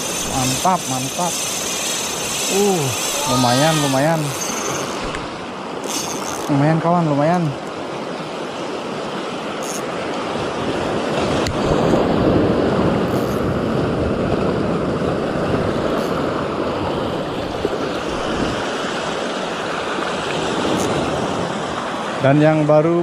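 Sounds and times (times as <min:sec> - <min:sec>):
surf washing along beach: 0:00.0 - 0:23.0.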